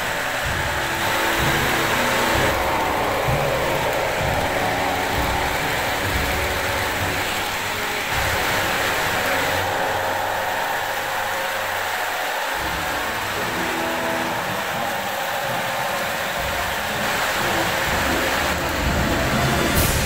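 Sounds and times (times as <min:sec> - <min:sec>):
model train wheels rumbling: 0:00.0 - 0:20.0.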